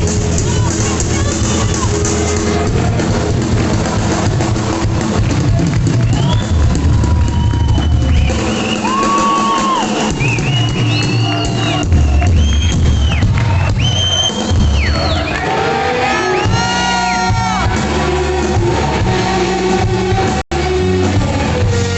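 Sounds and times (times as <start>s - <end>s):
drum kit: 0.0s - 21.9s
heavy bass: 0.0s - 21.9s
rock band playing live: 0.0s - 21.9s.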